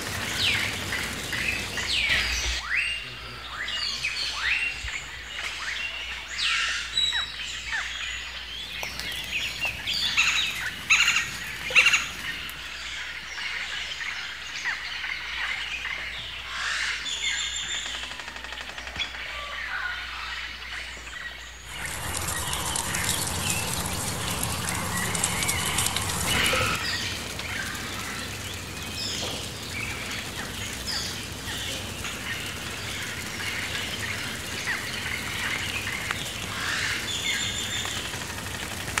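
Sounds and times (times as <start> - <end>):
outdoor background hiss: 0.0 - 18.8, 20.4 - 39.0
birds chirping and calling: 0.0 - 39.0.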